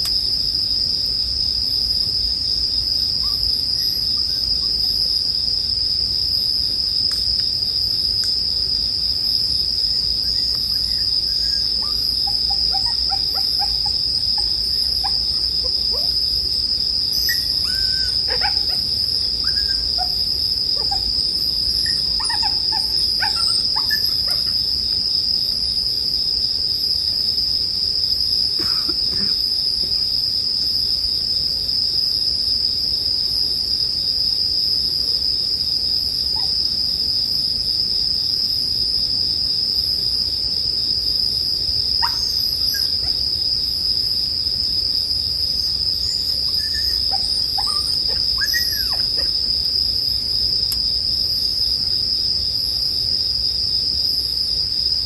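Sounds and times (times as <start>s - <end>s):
crickets chorus: 0.0s - 55.0s.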